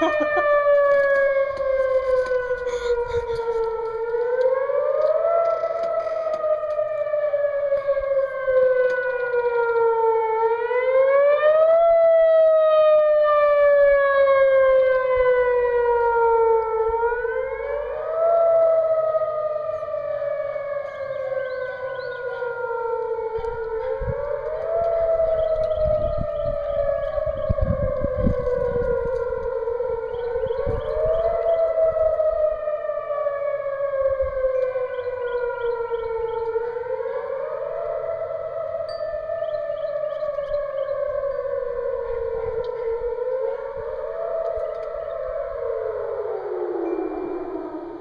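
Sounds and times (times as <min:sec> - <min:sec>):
tornado siren wailing: 0:00.0 - 0:48.0.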